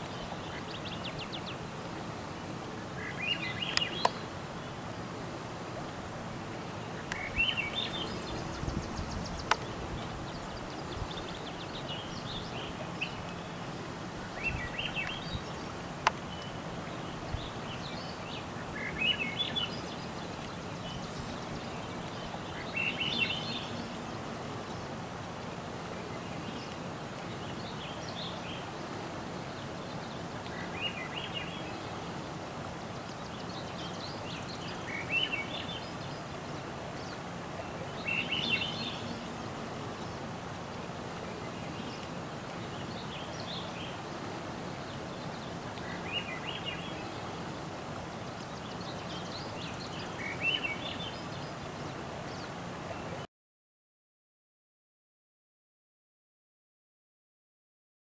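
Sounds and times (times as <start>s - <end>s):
steady background hiss: 0.0s - 53.3s.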